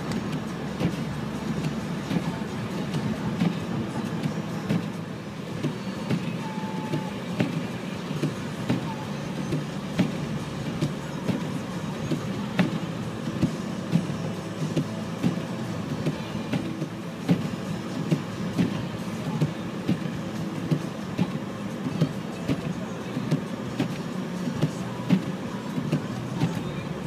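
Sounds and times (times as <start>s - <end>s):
engine and tyres rumbling: 0.0s - 27.0s.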